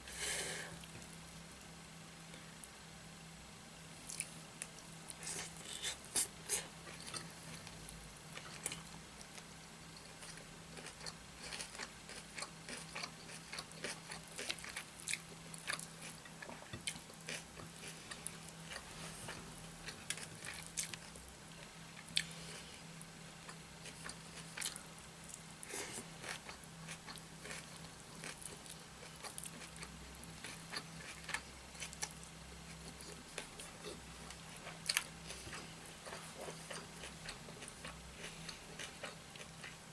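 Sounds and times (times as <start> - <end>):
faint steady hum: 0.0 - 39.9
chewing and eating by hand: 4.0 - 21.2, 23.4 - 39.8.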